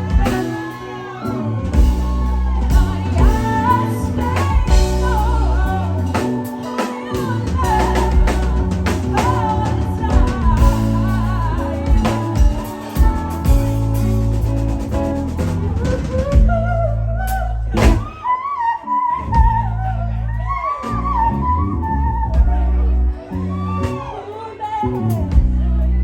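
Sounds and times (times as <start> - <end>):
lead singer singing: 0.0 - 26.0
live band playing soul ballad: 0.0 - 26.0.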